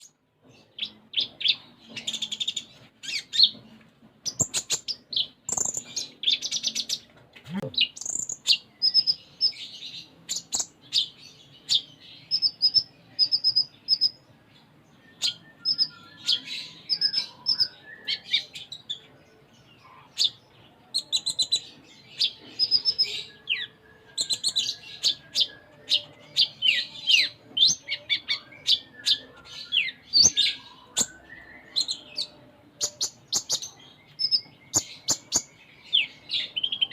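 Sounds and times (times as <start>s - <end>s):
sunbird singing: 0.0s - 3.6s, 4.2s - 36.9s.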